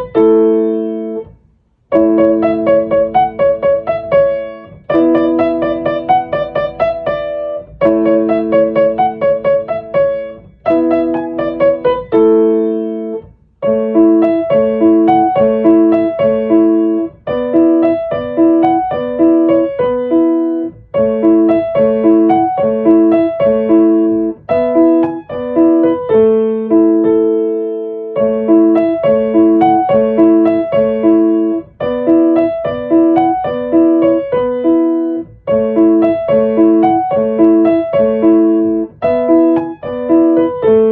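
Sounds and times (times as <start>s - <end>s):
gentle piano music: 0.0s - 40.9s.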